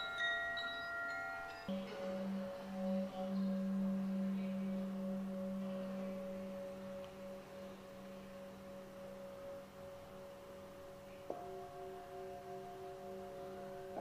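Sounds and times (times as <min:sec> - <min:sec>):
singing bowls ringing: 0:00.0 - 0:14.0.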